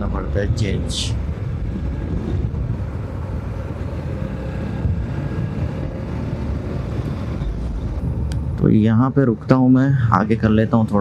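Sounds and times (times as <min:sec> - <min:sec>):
motorcycle engine: 0:00.0 - 0:09.0
wind and road rumble: 0:00.0 - 0:11.0.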